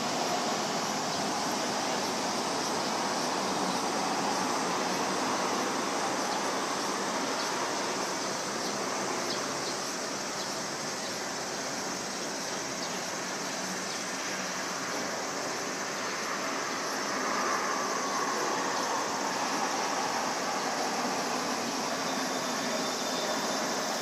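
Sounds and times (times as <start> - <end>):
distant jet engine rush: 0.0 - 24.0.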